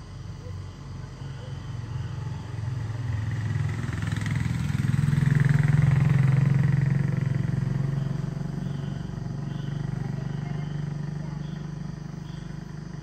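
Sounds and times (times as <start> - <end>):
vehicle engine passing: 1.2 - 13.0.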